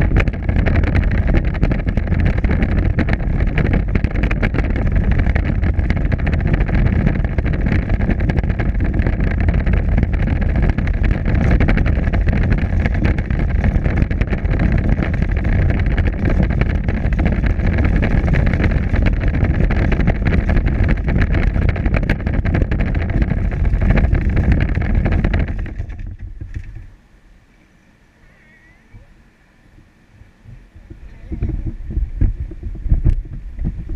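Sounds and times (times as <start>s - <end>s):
wheels rattling on rough pavement: 0.0s - 27.1s, 30.4s - 33.9s.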